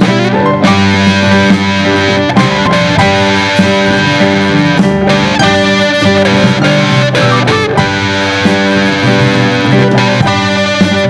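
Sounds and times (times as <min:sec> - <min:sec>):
country rock band music: 0:00.0 - 0:11.0
electric guitar lead line: 0:00.0 - 0:11.0.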